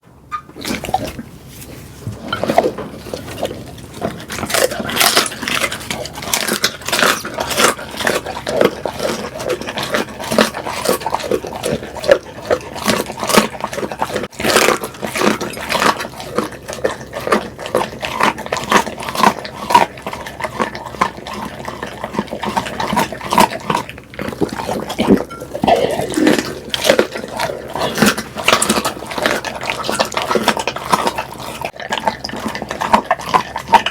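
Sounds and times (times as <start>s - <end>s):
dog chewing and smacking: 0.4s - 33.9s.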